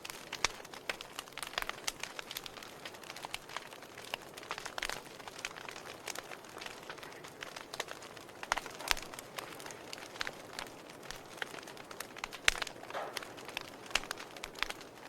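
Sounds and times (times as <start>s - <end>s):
fire crackling and popping: 0.0s - 15.0s
soft hiss of flame: 0.0s - 15.0s.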